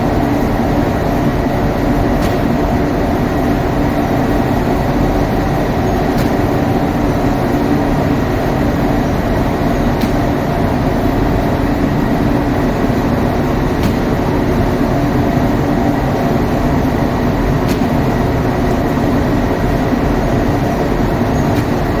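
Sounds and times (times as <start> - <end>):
loud machine drone: 0.0 - 22.0.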